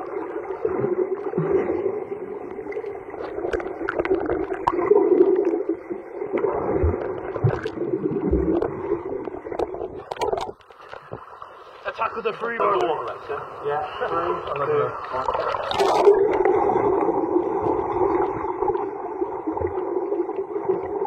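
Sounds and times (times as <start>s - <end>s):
muffled water sloshing and gurgling: 0.0s - 21.0s.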